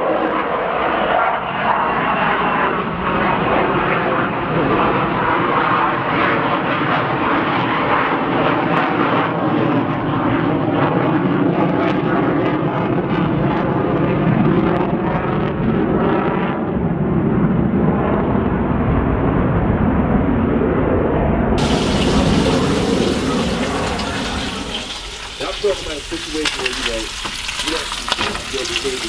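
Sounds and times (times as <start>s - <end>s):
jet flying overhead: 0.0s - 29.0s.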